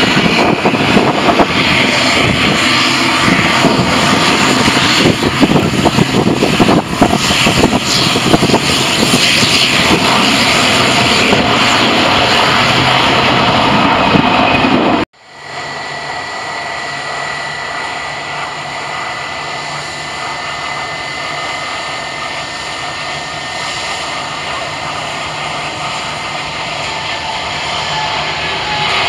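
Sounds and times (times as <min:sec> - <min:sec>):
jet engine takeoff rumble: 0:00.0 - 0:29.0
jet engines at climb power: 0:00.0 - 0:29.0.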